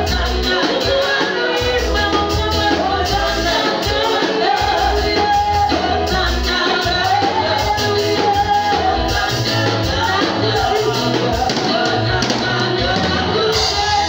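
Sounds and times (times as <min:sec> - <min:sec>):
woman singing with band: 0:00.0 - 0:14.0.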